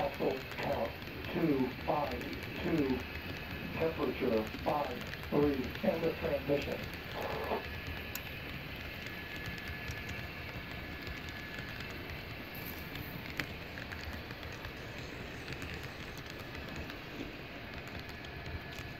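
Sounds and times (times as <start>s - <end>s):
model train wheels rumbling on rails: 0.0s - 18.9s.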